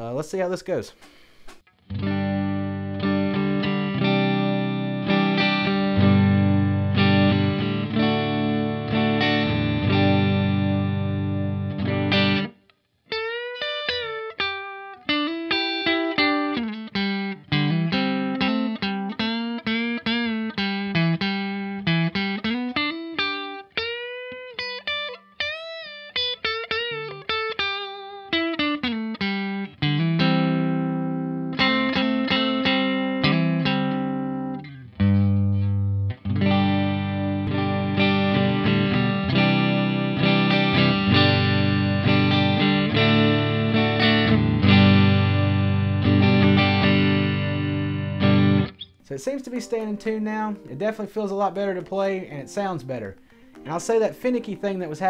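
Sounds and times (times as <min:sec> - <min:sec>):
electric guitar chords strummed: 0:01.8 - 0:55.0
electric guitar lead with bends: 0:01.8 - 0:55.0.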